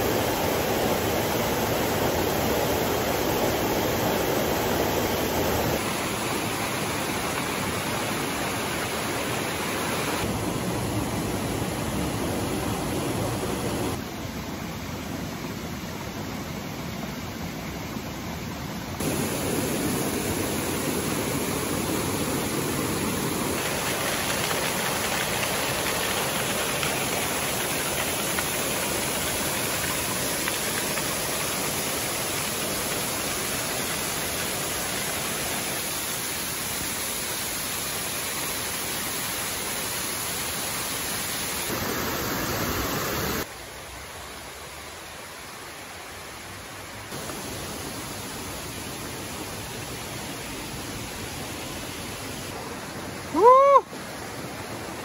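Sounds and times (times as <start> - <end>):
mountain stream rushing over rocks: 0.0 - 55.0.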